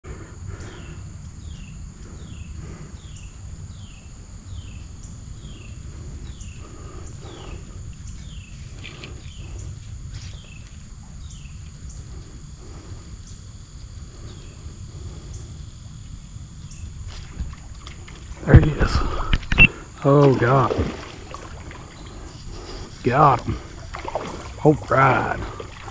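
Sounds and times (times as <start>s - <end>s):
high insect buzz: 0.0s - 25.9s.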